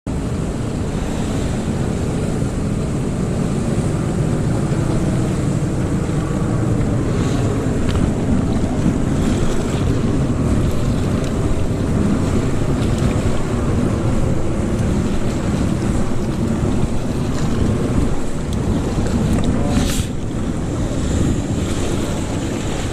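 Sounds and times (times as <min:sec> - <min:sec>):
sea waves washing: 0:00.1 - 0:22.9
wind buffeting microphone: 0:00.1 - 0:22.9.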